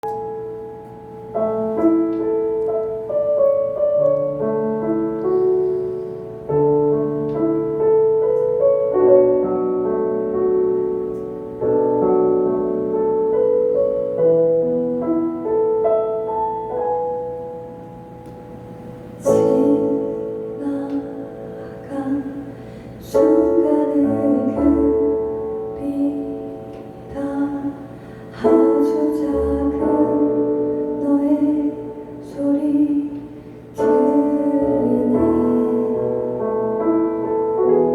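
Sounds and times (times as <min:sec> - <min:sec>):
slow gentle piano melody: 0:00.0 - 0:37.9.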